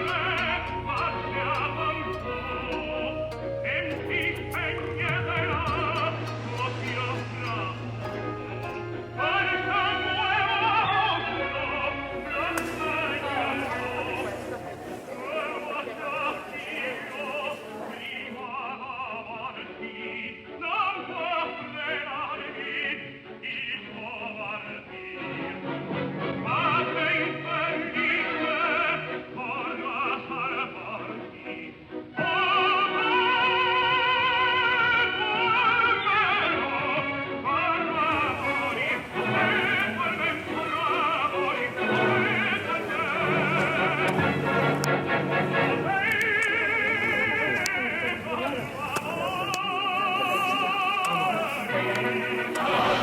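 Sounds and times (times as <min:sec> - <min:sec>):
classical accompaniment: 0:00.0 - 0:53.0
operatic singing: 0:00.0 - 0:53.0.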